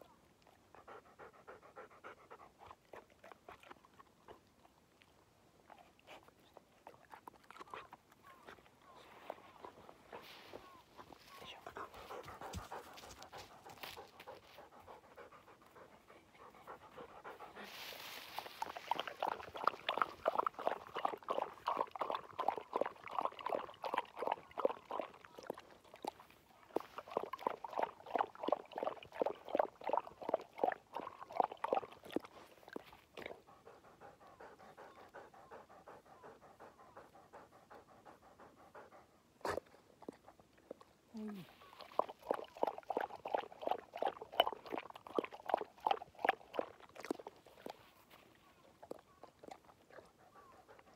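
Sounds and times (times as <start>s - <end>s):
dog rhythmic breath and mouth sounds: 0.0s - 50.9s.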